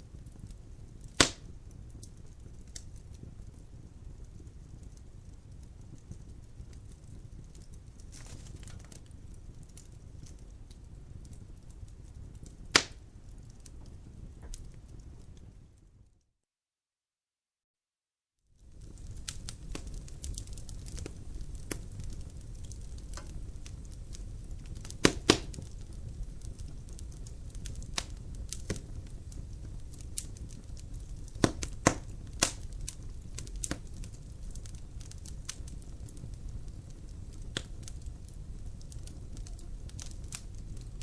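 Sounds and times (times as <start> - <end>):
wood fire crackling: 0.0 - 16.0, 18.6 - 41.0.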